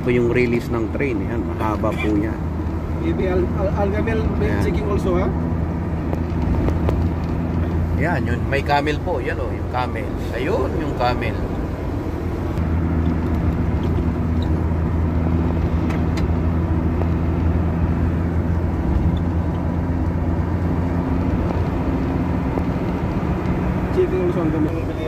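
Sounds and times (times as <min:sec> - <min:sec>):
road noise: 0:00.0 - 0:25.0
vehicle engine drone: 0:00.0 - 0:25.0.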